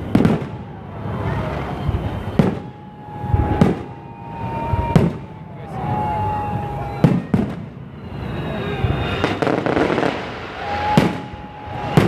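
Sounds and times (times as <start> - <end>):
continuous rumble: 0.0 - 12.0
firework whistling: 0.0 - 12.0.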